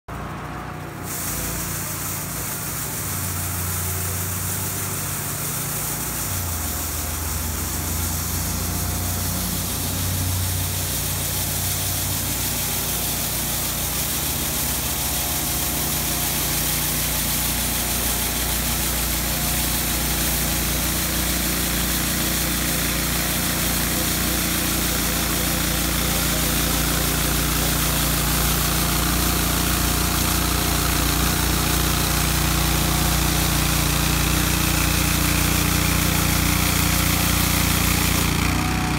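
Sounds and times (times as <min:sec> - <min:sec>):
loader engine humming: 0:00.1 - 0:38.9
broom brushing slush: 0:01.0 - 0:38.5.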